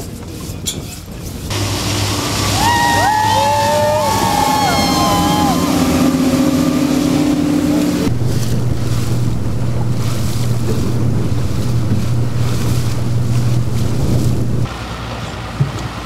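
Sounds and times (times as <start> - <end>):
wind: 0.0 - 16.0
outboard motor running: 1.5 - 14.7
rushing water: 1.5 - 16.0.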